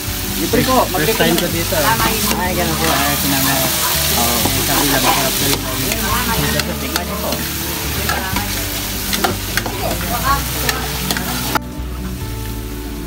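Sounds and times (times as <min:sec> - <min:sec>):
broth pouring into wok: 0:00.0 - 0:13.0
meat sizzling in oil: 0:00.0 - 0:13.0
metal ladle scraping wok: 0:00.6 - 0:12.1.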